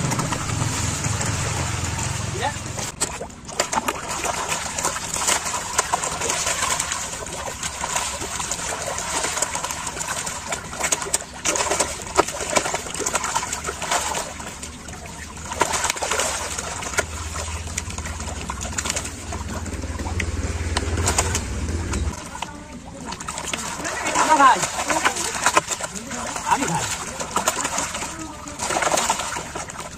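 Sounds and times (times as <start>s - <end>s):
fish splashing in water: 0.0s - 29.9s.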